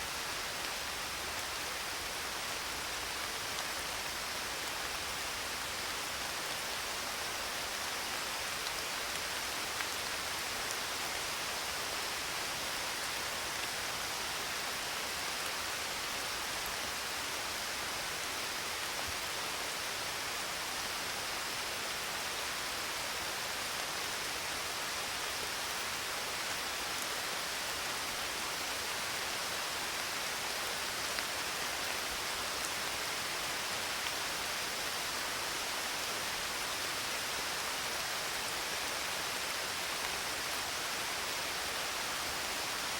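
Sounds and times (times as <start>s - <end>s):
steady rain hiss: 0.0s - 42.9s.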